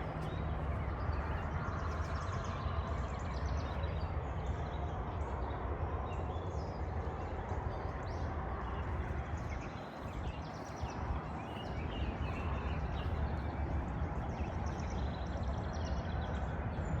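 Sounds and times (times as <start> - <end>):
birds chirping: 0.0 - 16.9
low outdoor rumble: 0.0 - 17.0.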